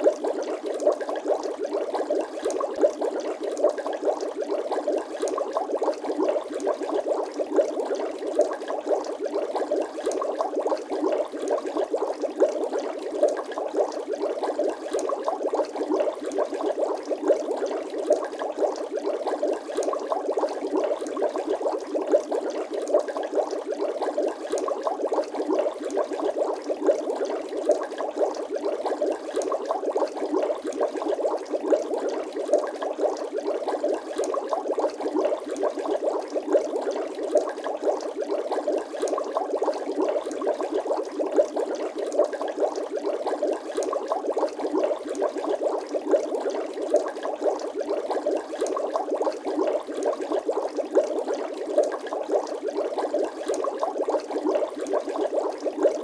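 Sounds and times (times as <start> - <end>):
water bubbling and gurgling: 0.0 - 56.0.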